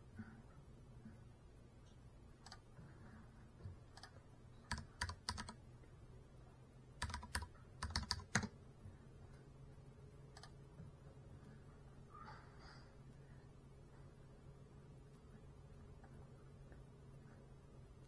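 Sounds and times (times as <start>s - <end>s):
faint low steady hum: 0.0s - 18.0s.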